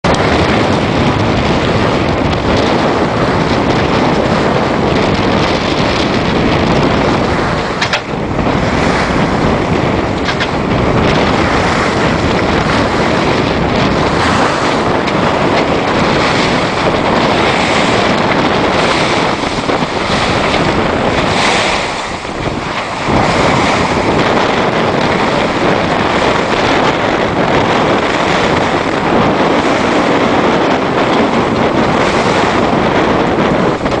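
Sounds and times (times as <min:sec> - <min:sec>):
strong wind on microphone: 0:00.0 - 0:34.0
waves and spray along hull: 0:00.0 - 0:34.0.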